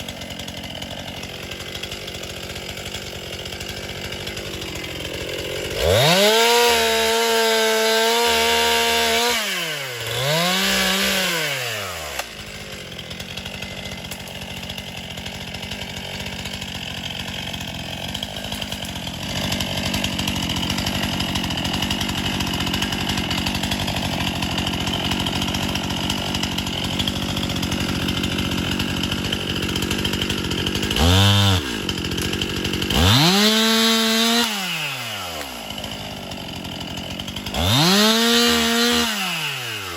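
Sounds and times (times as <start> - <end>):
two-stroke chainsaw revving: 0.0 - 39.9.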